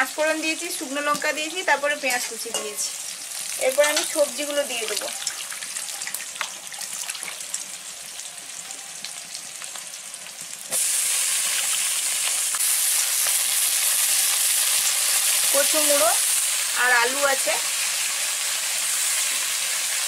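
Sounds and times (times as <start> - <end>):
onions sizzling in hot oil: 0.0 - 20.0
potato pieces hissing in oil: 0.0 - 20.0.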